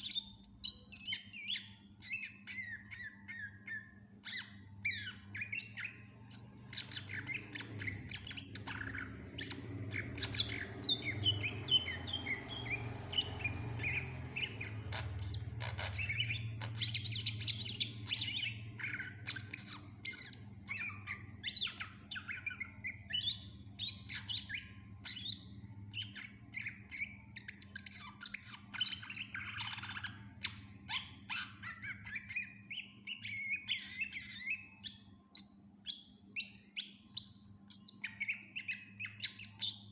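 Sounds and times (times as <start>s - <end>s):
bird singing varied song: 0.0s - 39.9s
faint low hum: 0.0s - 39.9s.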